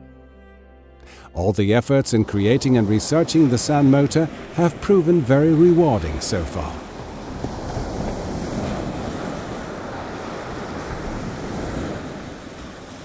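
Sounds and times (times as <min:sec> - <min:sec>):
sea surf breaking: 0:01.1 - 0:13.0
wind: 0:01.2 - 0:13.0.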